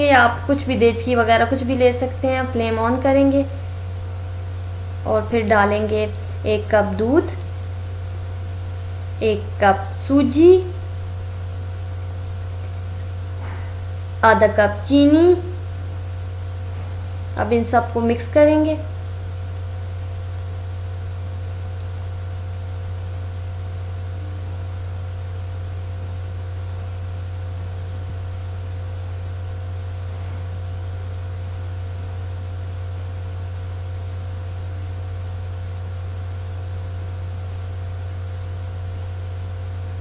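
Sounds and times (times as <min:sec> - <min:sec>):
constant hiss: 0:00.0 - 0:40.0
low electrical hum: 0:00.0 - 0:40.0.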